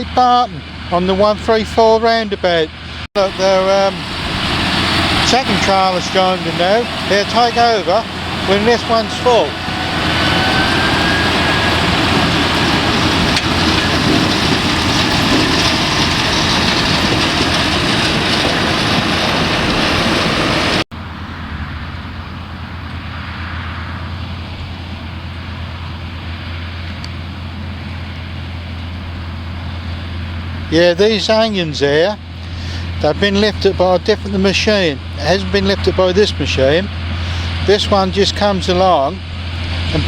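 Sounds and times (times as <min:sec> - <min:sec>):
low engine drone: 0:00.0 - 0:40.0
tractor engines running: 0:00.0 - 0:40.0.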